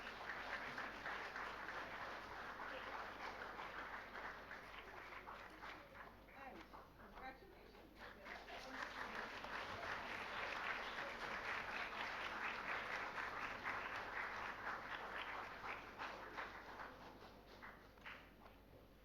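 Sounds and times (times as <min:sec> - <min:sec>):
audience applauding: 0:00.0 - 0:06.2, 0:08.1 - 0:18.4.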